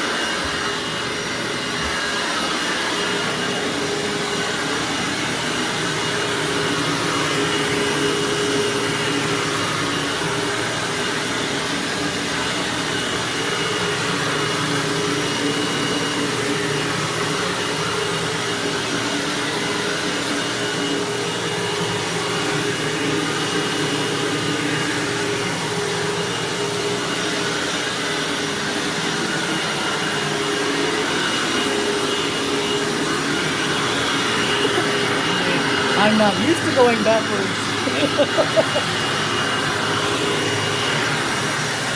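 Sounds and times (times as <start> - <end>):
vacuum cleaner running on carpet: 0.0 - 41.9.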